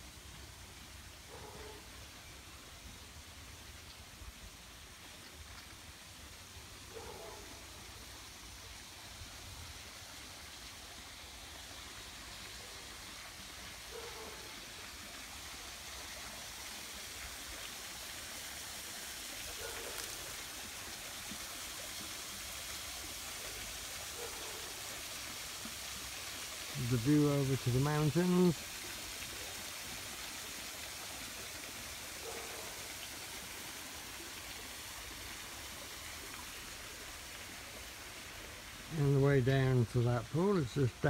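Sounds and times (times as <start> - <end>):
water falling into pool: 0.0 - 41.0.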